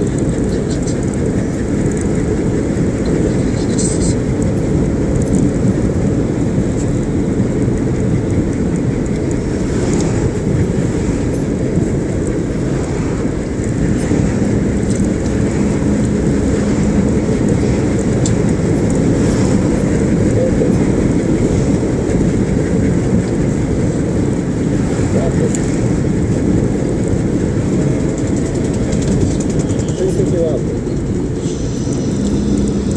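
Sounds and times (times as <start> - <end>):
car interior road rumble: 0.0 - 32.9.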